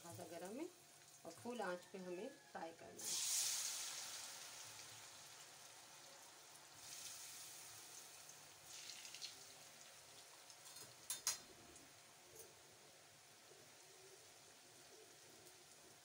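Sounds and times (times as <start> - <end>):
fries sizzling in hot oil: 0.0 - 16.0.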